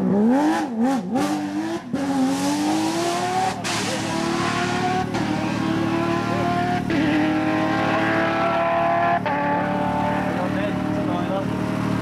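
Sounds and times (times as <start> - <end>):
car engine accelerating with upshifts: 0.0 - 12.0.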